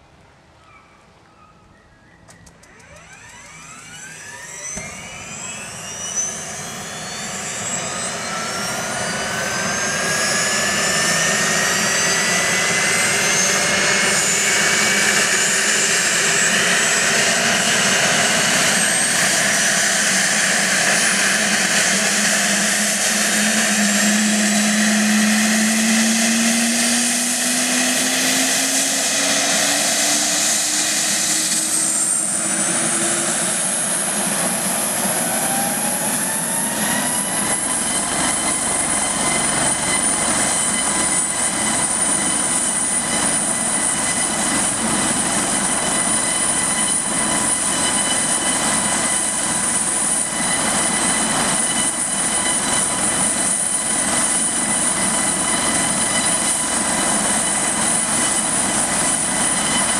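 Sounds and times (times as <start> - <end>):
helicopter engines whining: 0.7 - 59.9
high whine: 2.0 - 59.9.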